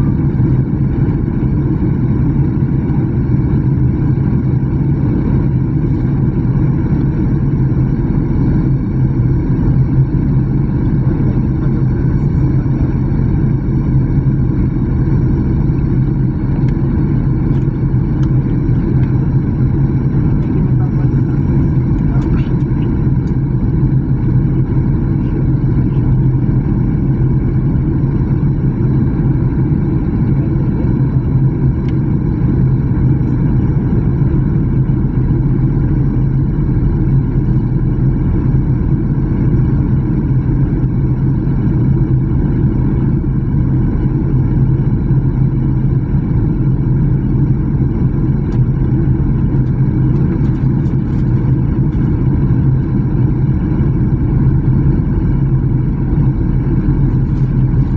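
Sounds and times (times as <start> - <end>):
jet engines humming: 0.0 - 57.9.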